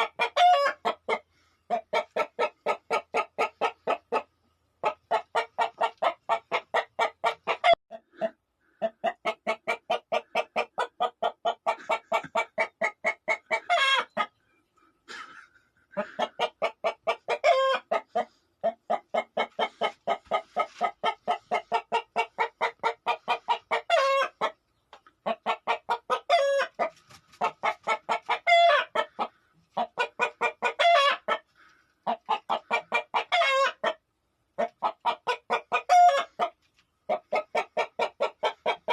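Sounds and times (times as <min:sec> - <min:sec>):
hen cackling: 0:00.0 - 0:14.4, 0:15.1 - 0:24.6, 0:25.2 - 0:34.0, 0:34.6 - 0:38.9.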